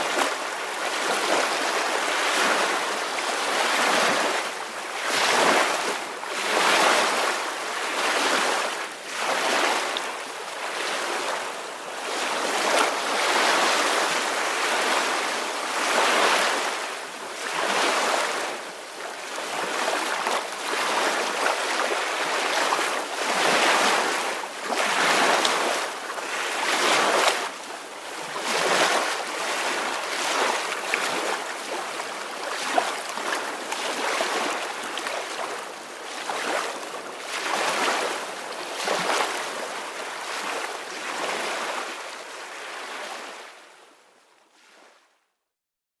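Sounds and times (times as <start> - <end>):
small ocean waves washing ashore: 0.0 - 45.3.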